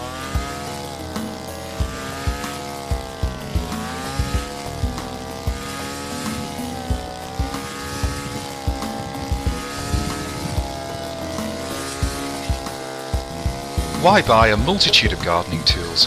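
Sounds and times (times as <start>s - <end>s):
brush cutter engine running: 0.0s - 16.0s
low thumps: 0.0s - 16.0s.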